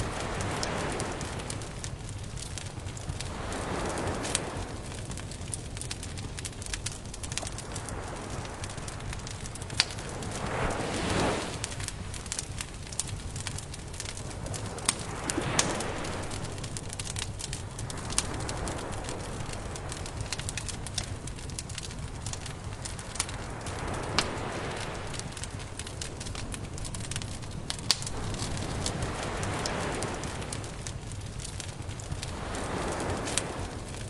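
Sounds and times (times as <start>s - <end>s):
campfire crackling: 0.0s - 34.0s
surf washing in: 0.0s - 34.0s.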